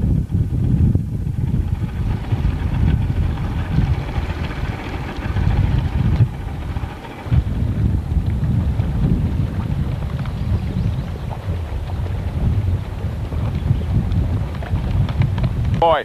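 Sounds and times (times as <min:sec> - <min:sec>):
rushing hiss of wind: 0:00.0 - 0:16.0
wind buffeting microphone: 0:00.0 - 0:16.0.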